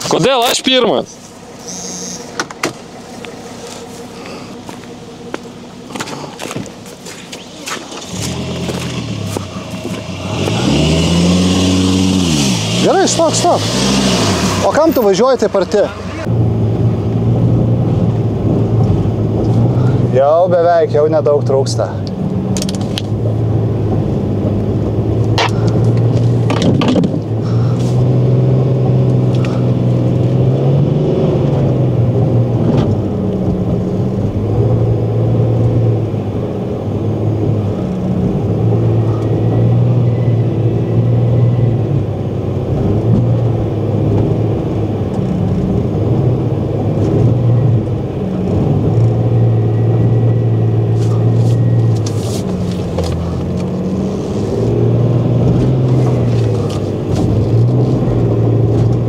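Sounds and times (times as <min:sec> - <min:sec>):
engine pulling hard under load: 0:00.0 - 0:16.3, 0:19.4 - 0:59.0.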